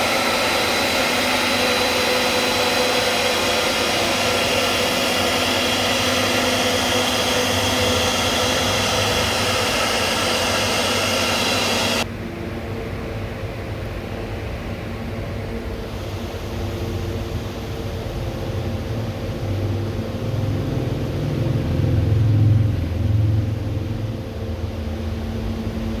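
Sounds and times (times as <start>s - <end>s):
cnc router motor whine: 0.0s - 12.1s, 15.7s - 26.0s.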